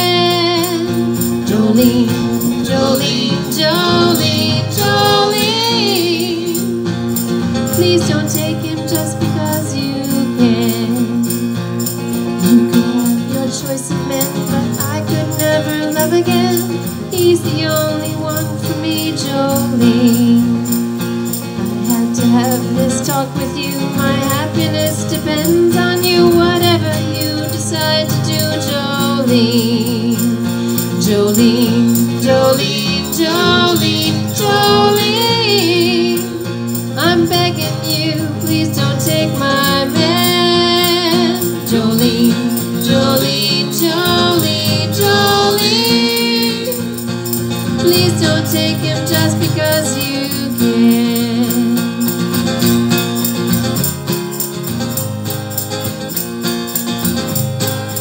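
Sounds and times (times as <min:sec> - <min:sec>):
person singing: 0:00.0 - 0:20.8, 0:21.6 - 0:52.4
acoustic guitars strummed: 0:00.0 - 0:58.0.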